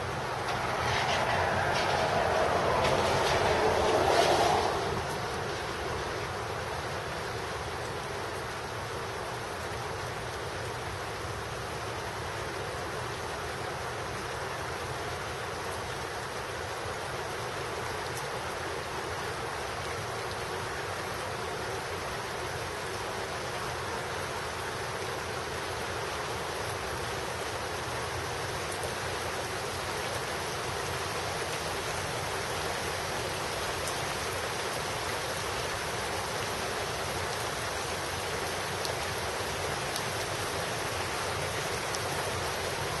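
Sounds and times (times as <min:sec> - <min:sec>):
steady rain falling: 0:00.0 - 0:43.0.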